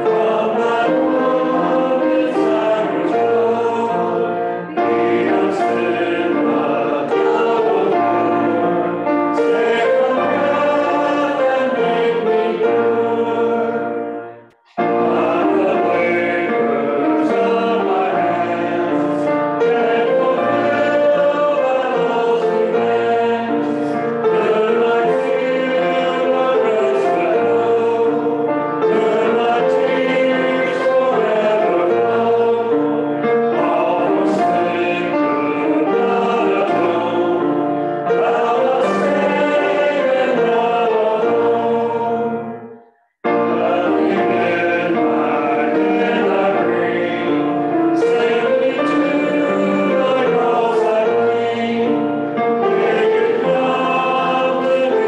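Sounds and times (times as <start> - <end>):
instrumental accompaniment: 0.0 - 55.0
voices singing a hymn: 0.0 - 55.0.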